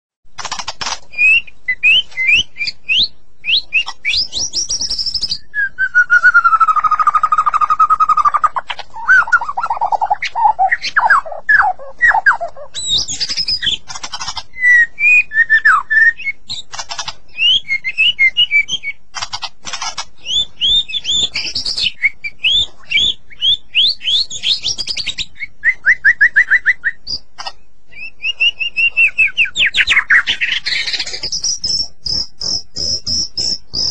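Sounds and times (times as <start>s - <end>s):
bird singing whistled song: 1.1s - 16.7s, 17.3s - 19.0s, 20.2s - 33.9s.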